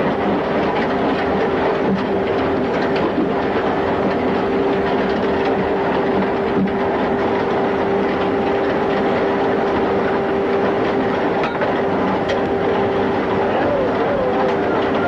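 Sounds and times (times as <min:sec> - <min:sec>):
cutting drum mechanical rumble: 0:00.0 - 0:15.0.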